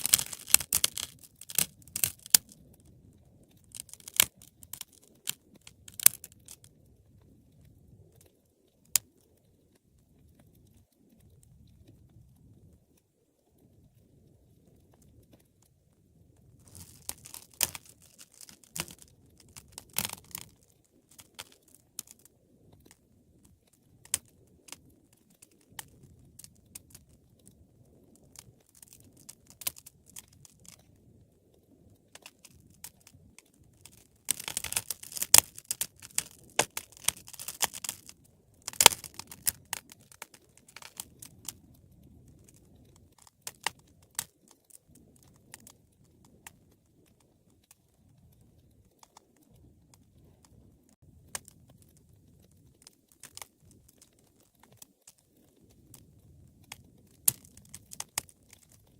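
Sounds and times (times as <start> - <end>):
low rumble of flames: 0.0 - 58.9
wood fire crackling: 0.0 - 58.9.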